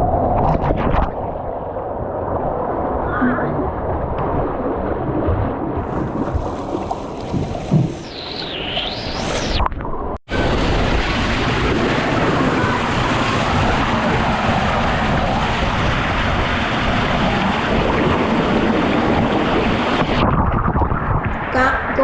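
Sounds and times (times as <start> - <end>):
wind noise on microphone: 0.0 - 8.8, 10.3 - 22.0.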